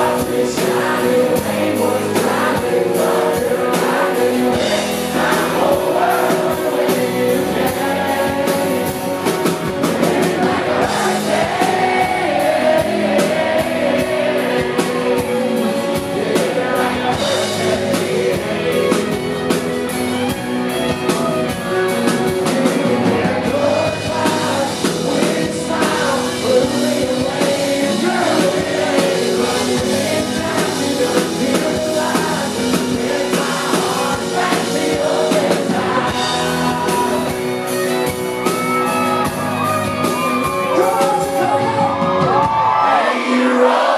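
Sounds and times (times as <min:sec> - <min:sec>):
person singing: 0:00.0 - 0:19.4, 0:22.0 - 0:43.9
country band playing live: 0:00.0 - 0:43.9.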